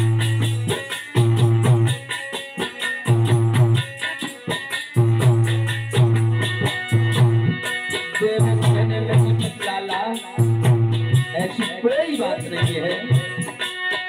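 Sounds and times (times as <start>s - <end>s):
hand percussion rattle: 0.0s - 14.0s.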